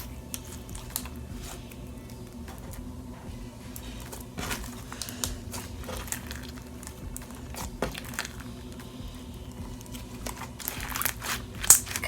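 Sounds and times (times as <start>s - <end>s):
slime squishing: 0.0s - 12.0s
small clicks and crackles: 0.0s - 12.0s.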